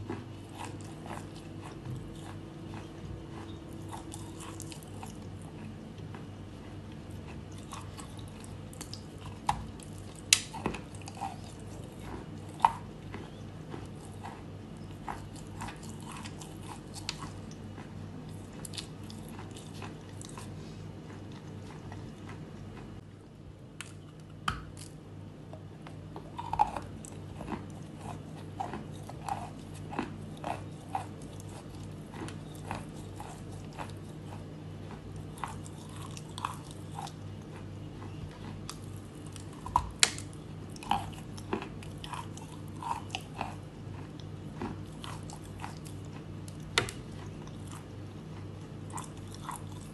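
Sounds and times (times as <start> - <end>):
chalk crunching and chewing: 0.0 - 23.0, 25.6 - 49.9.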